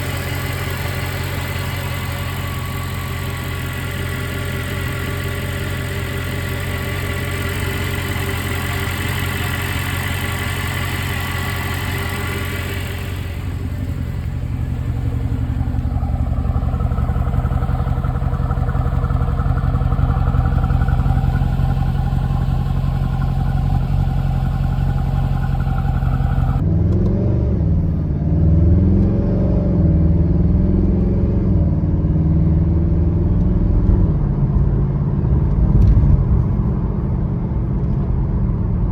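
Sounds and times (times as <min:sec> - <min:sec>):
car engine revving: 0:00.0 - 0:31.3.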